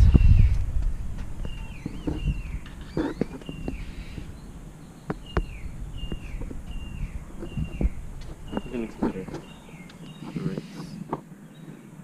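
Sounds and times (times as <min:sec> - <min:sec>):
bird chirping: 0:01.3 - 0:12.0.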